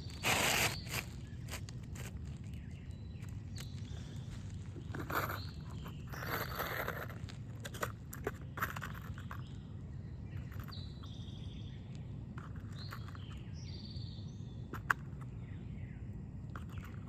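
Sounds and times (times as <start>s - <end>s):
songbirds trilling: 0.0s - 17.0s.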